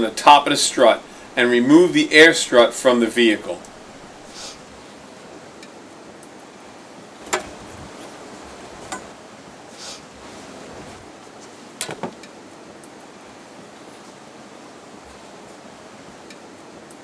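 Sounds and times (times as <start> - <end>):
steady hiss: 0.0 - 5.4, 6.4 - 16.6.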